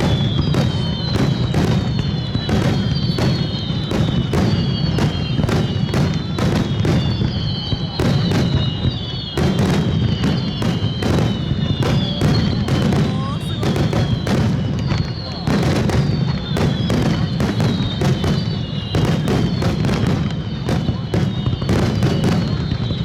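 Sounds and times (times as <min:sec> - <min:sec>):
aerial fireworks bursting: 0:00.0 - 0:23.0
fireworks crackle: 0:00.0 - 0:23.0.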